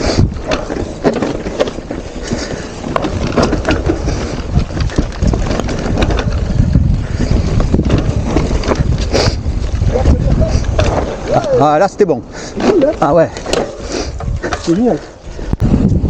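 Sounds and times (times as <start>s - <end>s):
tyres rolling over ground: 0.0s - 15.6s
bike rattling over rocks: 0.0s - 16.0s
wind on microphone: 0.0s - 16.0s.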